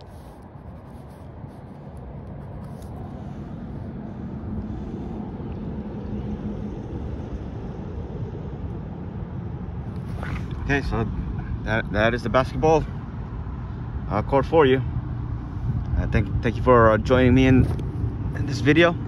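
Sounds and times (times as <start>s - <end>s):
vehicle rumble passing: 0.0s - 19.0s.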